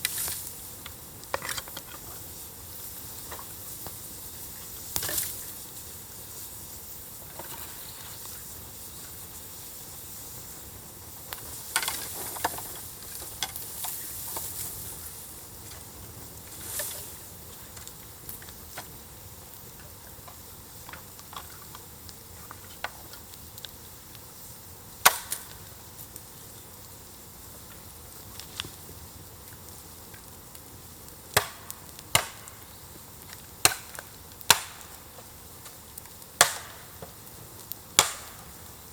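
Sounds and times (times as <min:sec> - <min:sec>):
campfire hissing: 0:00.0 - 0:38.9
fire crackles and pops: 0:00.0 - 0:38.9.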